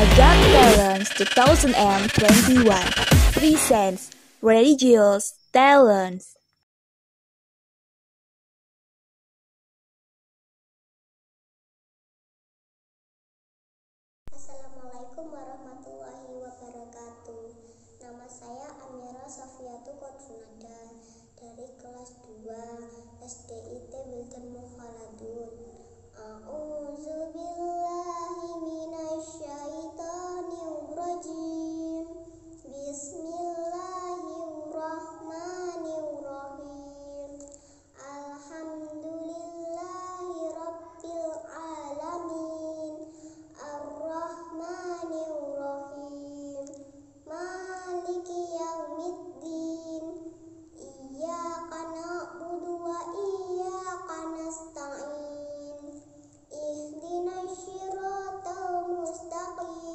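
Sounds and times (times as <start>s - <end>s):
girl singing: 0.0s - 6.3s, 14.3s - 59.9s.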